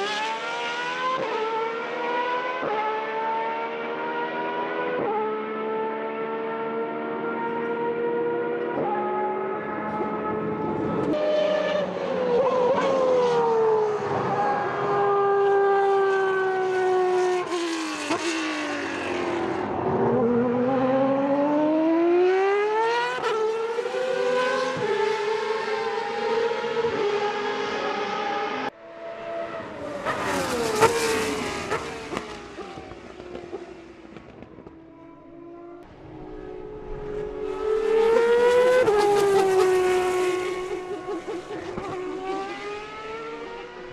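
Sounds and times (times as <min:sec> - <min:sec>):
race car engines revving: 0:00.0 - 0:43.9
race car passing: 0:00.0 - 0:43.9.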